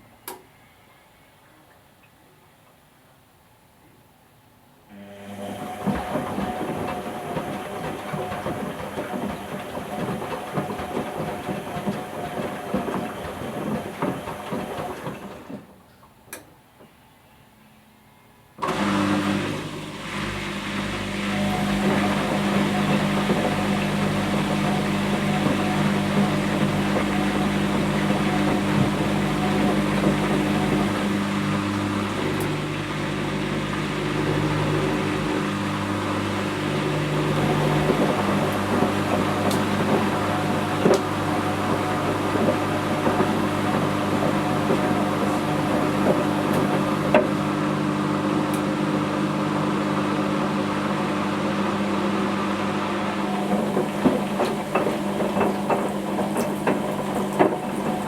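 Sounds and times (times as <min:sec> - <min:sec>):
washing machine running: 0:04.9 - 0:15.9, 0:18.6 - 0:58.0.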